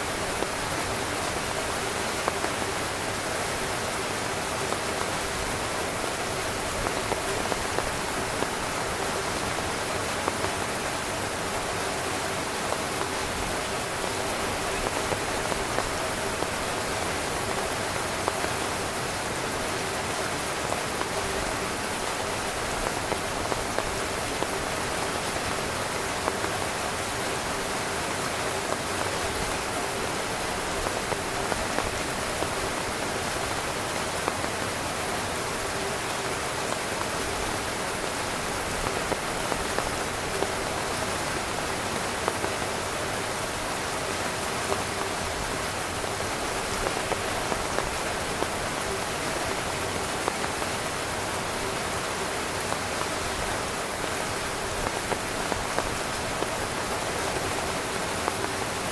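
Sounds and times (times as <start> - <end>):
heavy rain drumming on a tent: 0.0 - 58.9.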